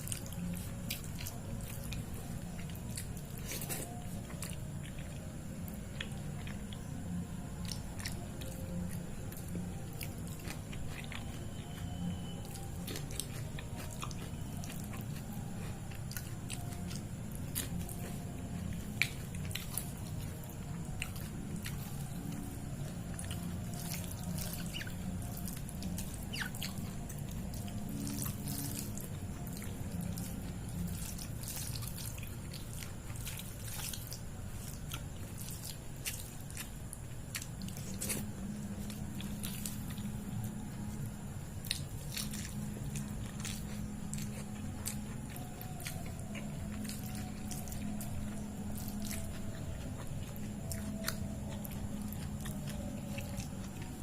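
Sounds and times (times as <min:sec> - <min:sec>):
steady low hum: 0:00.0 - 0:54.0
wet chewing: 0:00.0 - 0:54.0.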